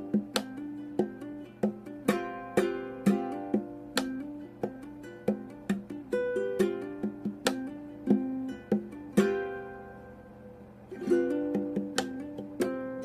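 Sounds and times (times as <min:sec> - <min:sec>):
ukulele playing: 0:00.0 - 0:13.0.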